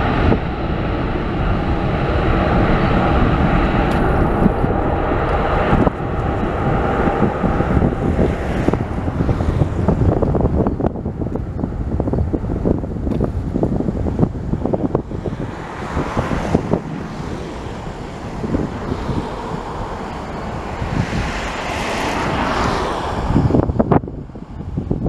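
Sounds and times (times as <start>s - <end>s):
jet engines roaring at takeoff: 0.0s - 25.0s
wind buffeting microphone: 0.0s - 25.0s.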